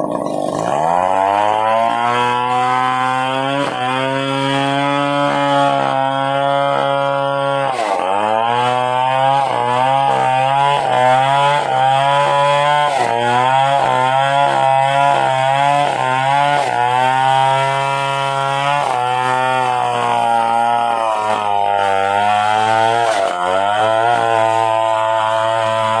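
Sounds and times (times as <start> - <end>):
chainsaw cutting wood: 0.0 - 26.0.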